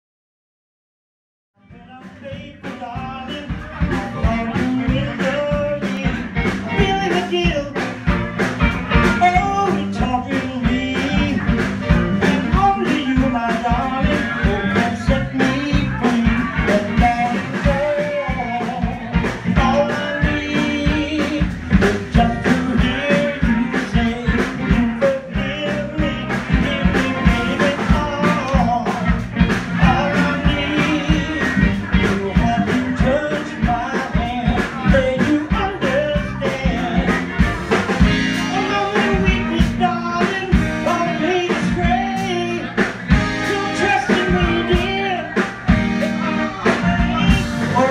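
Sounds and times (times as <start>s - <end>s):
live band playing upbeat music: 1.6s - 47.9s.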